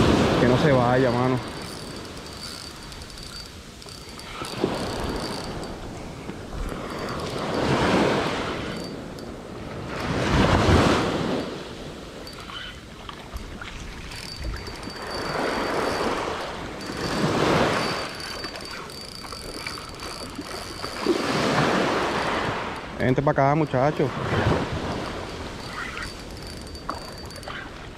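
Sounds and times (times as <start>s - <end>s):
small waves washing on sandy beach: 0.0s - 2.9s, 3.5s - 18.5s, 19.4s - 27.0s.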